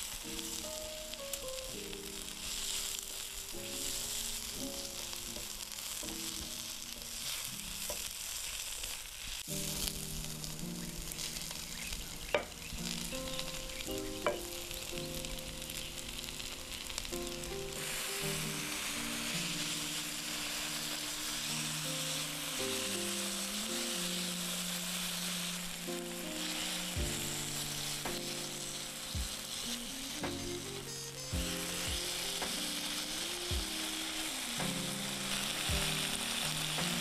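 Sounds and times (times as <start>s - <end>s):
meat and onions sizzling: 0.0s - 37.0s.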